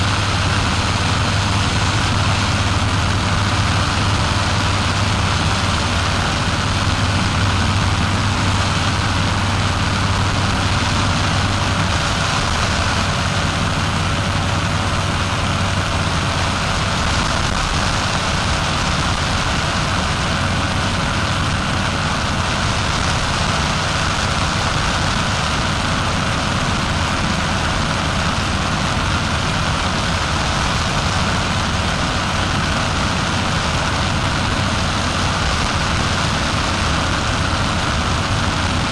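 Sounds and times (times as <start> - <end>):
paramotor engine running: 0.0 - 38.9.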